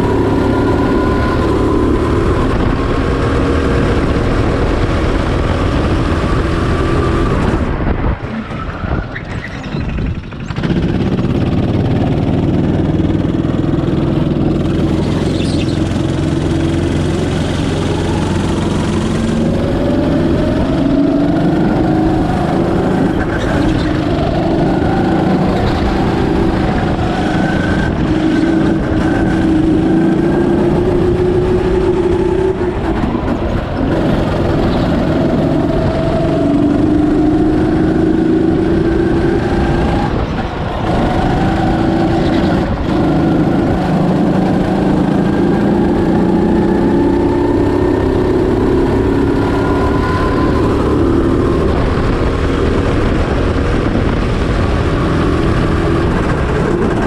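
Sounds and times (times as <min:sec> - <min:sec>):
go-kart engine running hard: 0:00.0 - 0:57.0.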